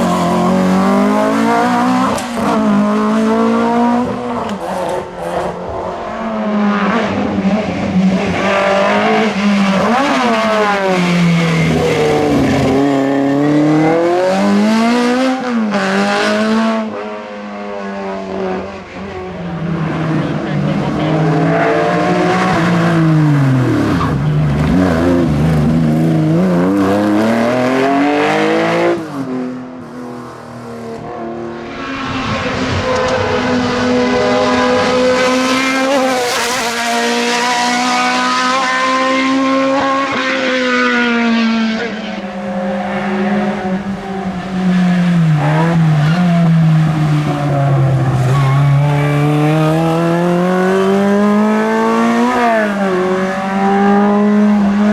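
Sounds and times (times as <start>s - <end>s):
racing car engines revving: 0.0s - 54.9s.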